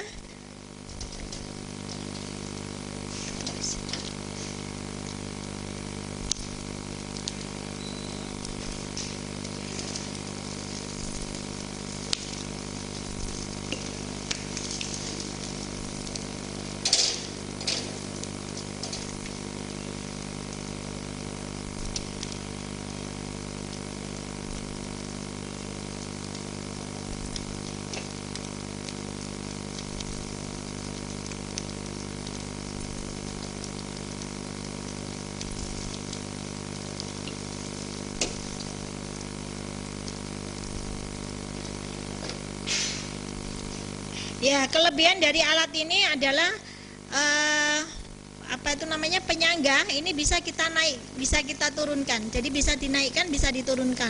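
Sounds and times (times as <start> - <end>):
fish sizzling on a grill: 0.0 - 54.0
low steady hum: 0.0 - 54.0.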